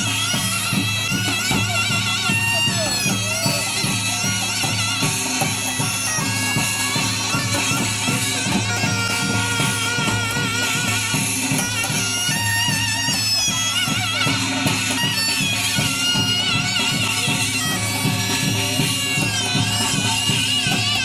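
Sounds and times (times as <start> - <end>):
double-reed wind instrument melody: 0.0 - 21.0
steady drum beat: 0.0 - 21.0.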